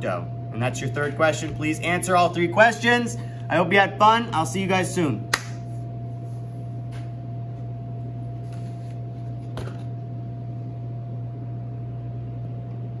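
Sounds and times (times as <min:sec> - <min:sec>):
faint constant whine: 0:00.0 - 0:13.0
low mechanical hum: 0:00.0 - 0:13.0.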